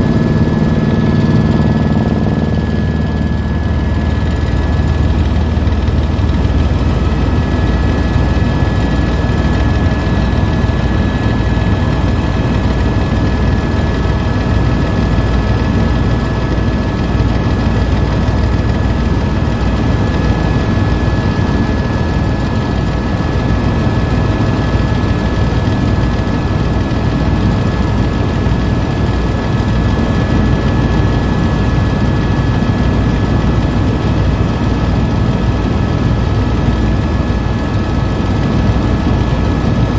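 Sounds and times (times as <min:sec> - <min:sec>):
helicopter rotor and engine rumble: 0:00.0 - 0:39.9.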